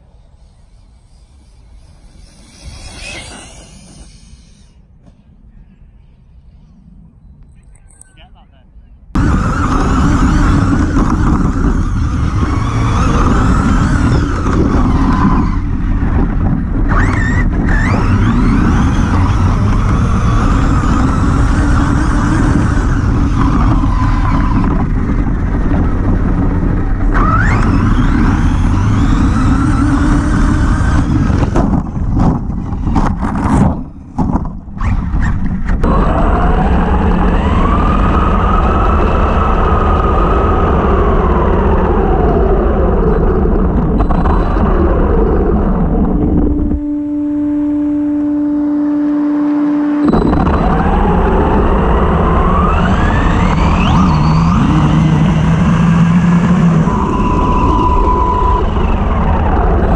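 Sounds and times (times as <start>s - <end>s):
rc car motor whining: 0.0s - 4.9s, 9.2s - 33.4s, 34.7s - 59.9s
steady low rumble: 0.0s - 34.8s, 35.4s - 48.6s.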